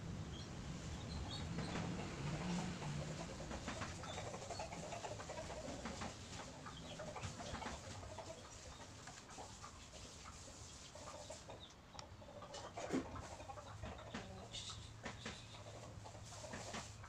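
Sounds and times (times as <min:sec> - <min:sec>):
other birds: 0:00.0 - 0:17.0
chickens clucking: 0:00.1 - 0:17.0.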